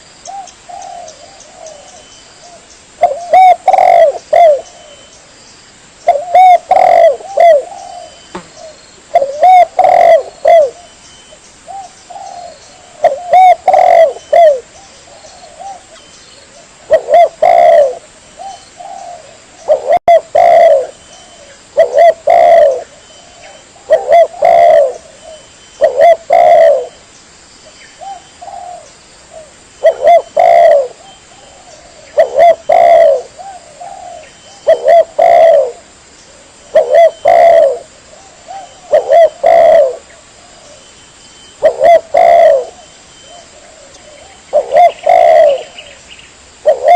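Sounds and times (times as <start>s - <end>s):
dove cooing: 0.0s - 5.1s, 6.0s - 11.0s, 11.7s - 27.0s, 28.0s - 40.9s, 41.6s - 46.0s, 46.6s - 46.9s.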